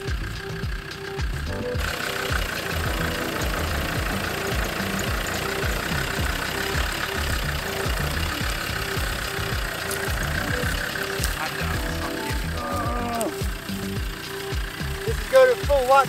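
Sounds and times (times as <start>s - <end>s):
engine running with low throb: 0.0s - 16.0s.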